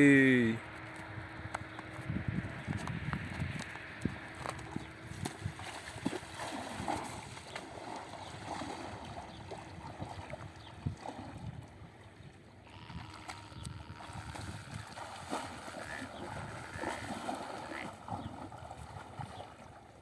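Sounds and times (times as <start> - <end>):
water splashing and sloshing: 2.6 - 20.0.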